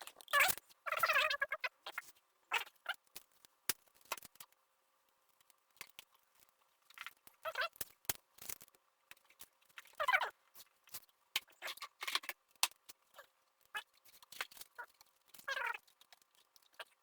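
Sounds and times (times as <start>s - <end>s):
light clicks and crinkles: 1.9s - 17.0s.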